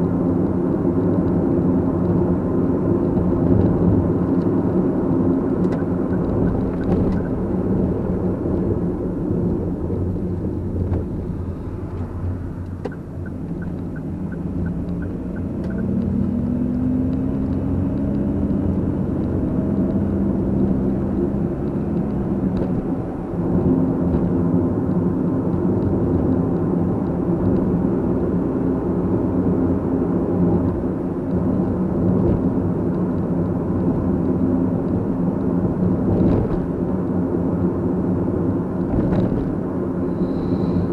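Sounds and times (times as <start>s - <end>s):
car engine hum: 0.0s - 40.9s
road noise: 0.0s - 40.9s.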